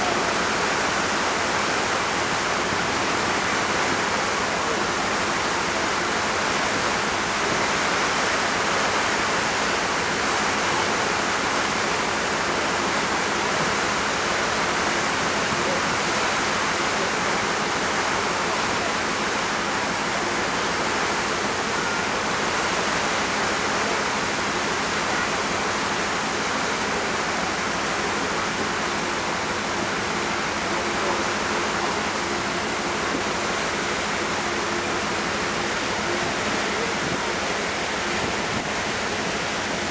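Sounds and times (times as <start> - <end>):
low hum of ship machinery: 0.0 - 39.9
water rushing from propellers: 0.0 - 39.9.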